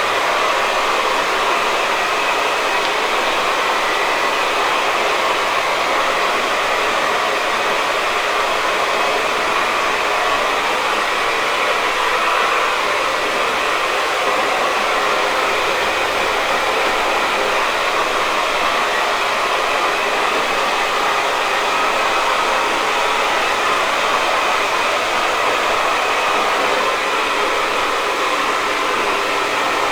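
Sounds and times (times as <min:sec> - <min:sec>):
hair dryer blowing: 0:00.0 - 0:29.9.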